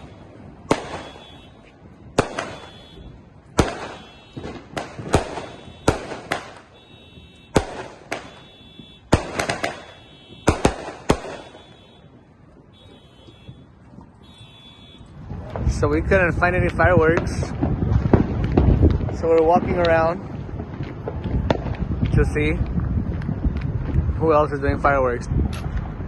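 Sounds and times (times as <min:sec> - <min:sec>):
fireworks banging: 0:00.0 - 0:24.2.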